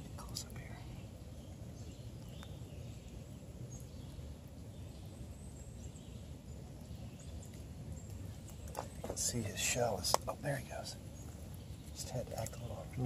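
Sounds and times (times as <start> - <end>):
faint bird chirps: 0.0 - 13.0
low woodland rumble: 0.0 - 13.0.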